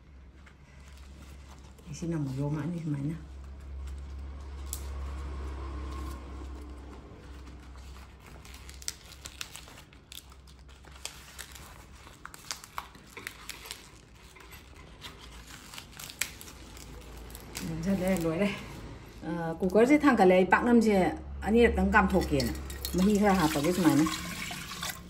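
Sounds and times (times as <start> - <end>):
banana leaf rustling and crinkling: 0.1 - 20.0, 22.1 - 25.0.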